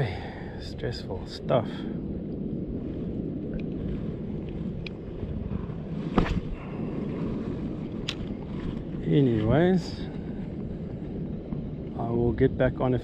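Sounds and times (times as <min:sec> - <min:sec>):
light aircraft engine drone: 0:00.0 - 0:13.0
wind buffeting microphone: 0:00.0 - 0:13.0.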